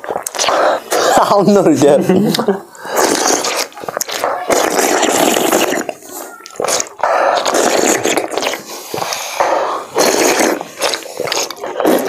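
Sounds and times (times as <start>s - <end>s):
people slurping wet food: 0.0s - 12.0s.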